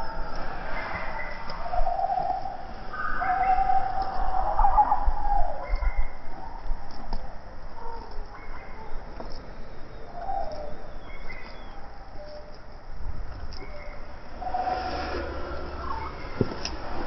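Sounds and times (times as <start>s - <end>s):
chirping calls: 0.0s - 17.0s
outdoor background noise: 0.0s - 17.0s.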